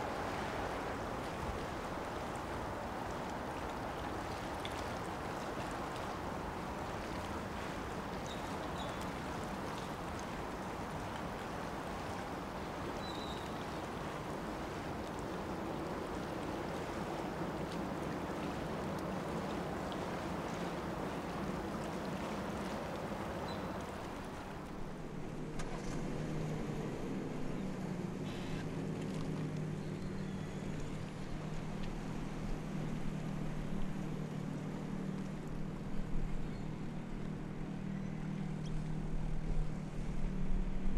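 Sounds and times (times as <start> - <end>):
water rushing: 0.0 - 40.9
wind: 0.0 - 40.9.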